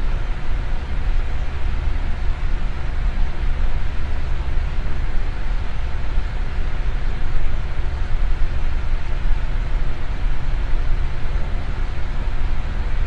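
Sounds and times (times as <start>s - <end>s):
faint motor hum: 0.0s - 13.0s.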